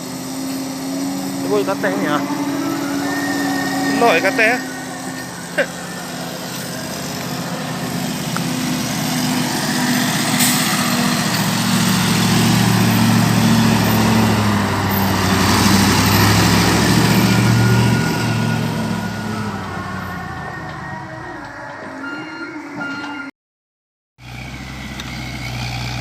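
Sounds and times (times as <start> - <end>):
heavy diesel engine running: 0.0 - 22.1, 24.2 - 26.0.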